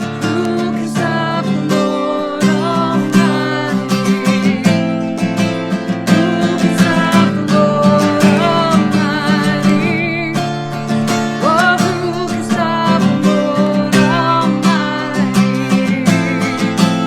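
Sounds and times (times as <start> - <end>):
acoustic guitar strumming: 0.0 - 17.0
person singing: 0.0 - 17.0.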